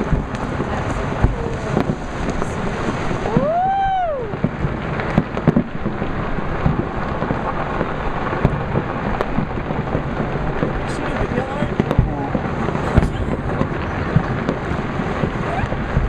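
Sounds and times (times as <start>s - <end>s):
whistling firework tone: 0.0s - 9.4s, 11.7s - 16.0s
firecrackers crackling and popping: 0.0s - 16.0s
loud firework bangs: 0.0s - 16.0s.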